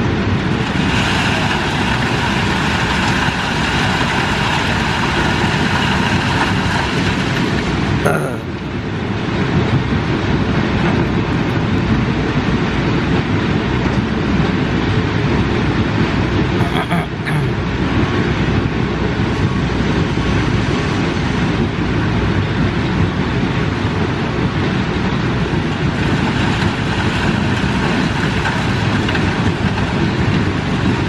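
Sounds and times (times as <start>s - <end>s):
excavator diesel engine: 0.0s - 31.0s.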